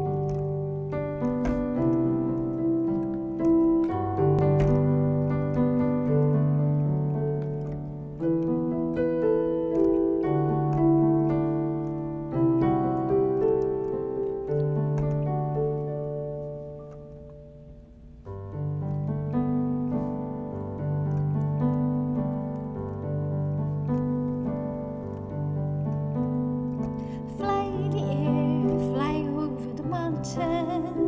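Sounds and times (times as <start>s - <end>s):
piano playing slow chords: 0.0s - 31.0s.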